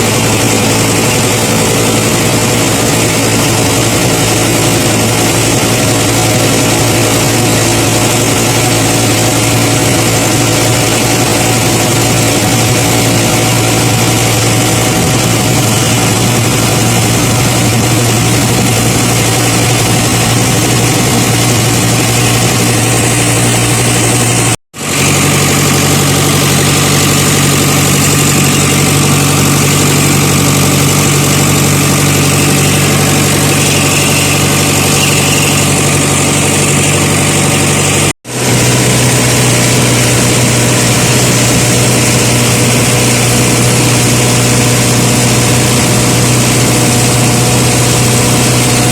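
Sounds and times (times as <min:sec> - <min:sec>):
engine idling: 0:00.0 - 0:48.9.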